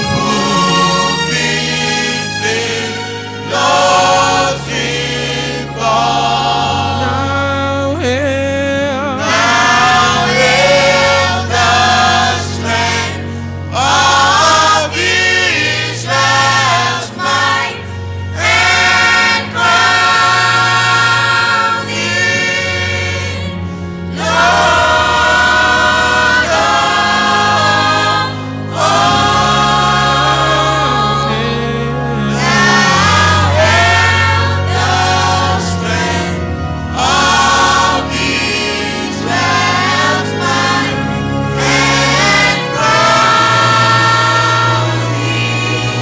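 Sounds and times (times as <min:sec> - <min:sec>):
congregation singing a hymn: 0:00.0 - 0:46.0
low bass accompaniment: 0:00.0 - 0:46.0.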